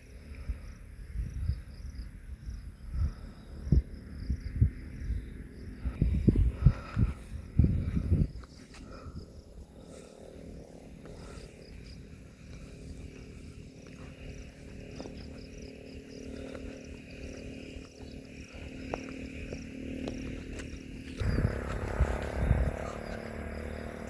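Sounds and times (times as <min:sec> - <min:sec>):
high insect whine: 0:00.0 - 0:24.0
insects chirping in pulses: 0:00.0 - 0:24.0
low rumble: 0:00.4 - 0:24.0.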